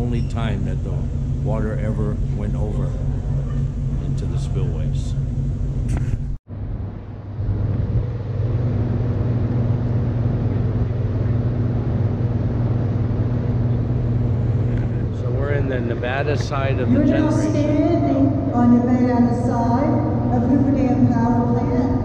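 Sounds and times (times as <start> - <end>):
generators droning and humming: 0.0 - 22.0.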